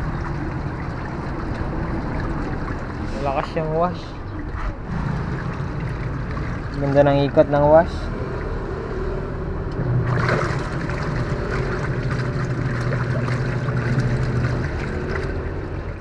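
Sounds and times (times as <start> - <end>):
washing machine motor humming: 0.0 - 16.0
water swishing: 0.0 - 16.0.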